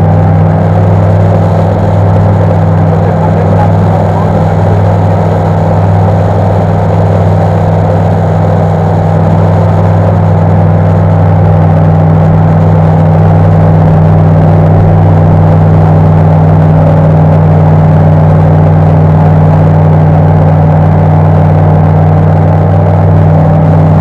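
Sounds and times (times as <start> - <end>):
aircraft engine and propeller drone: 0.0 - 24.0.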